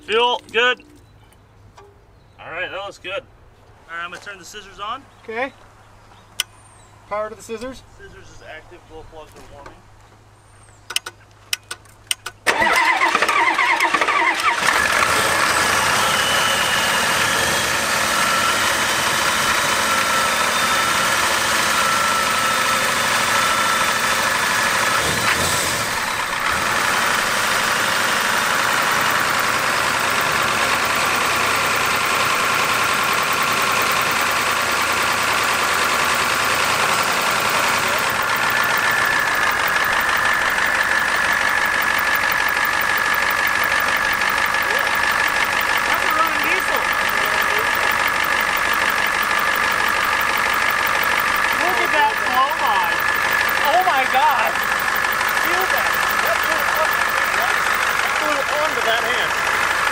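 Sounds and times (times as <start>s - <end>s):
diesel engine cranking and starting: 10.9s - 59.9s.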